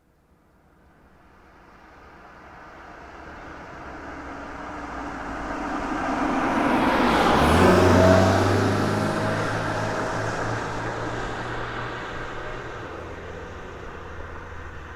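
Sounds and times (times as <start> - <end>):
car driving past: 2.5 - 14.9.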